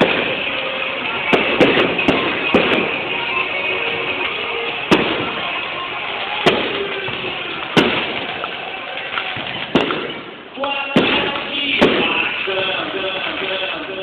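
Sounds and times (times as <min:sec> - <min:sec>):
fireworks bursting: 0:00.0 - 0:14.0
steady background noise: 0:00.0 - 0:14.0.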